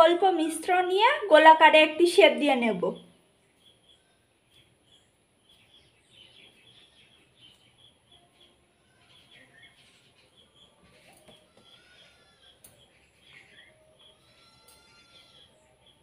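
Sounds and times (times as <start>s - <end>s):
faint small bird chirps: 2.9s - 16.0s.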